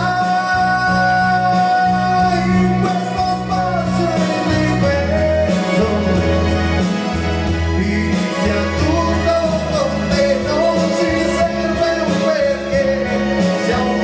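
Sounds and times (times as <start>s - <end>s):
instrumental accompaniment with bass: 0.0s - 14.0s
man singing a slow ballad: 0.0s - 14.0s.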